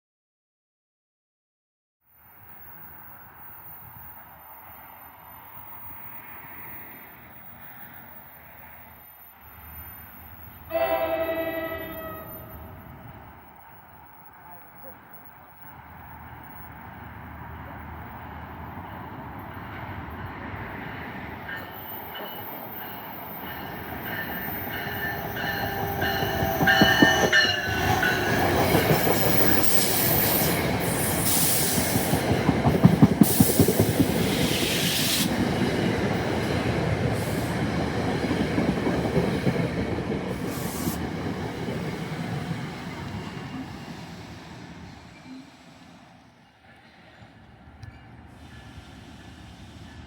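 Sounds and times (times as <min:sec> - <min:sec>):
passenger train passing: 0:02.2 - 0:50.0.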